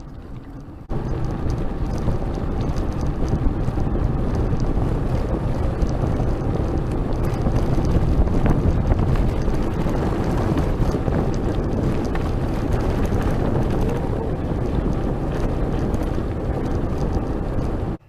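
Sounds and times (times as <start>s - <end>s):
wind rushing over microphone: 0.0s - 18.0s
tyres clicking on gravel: 0.4s - 17.9s.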